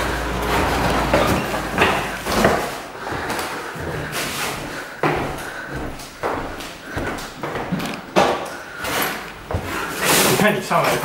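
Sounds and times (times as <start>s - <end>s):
footsteps on wooden floorboards: 0.0s - 10.0s.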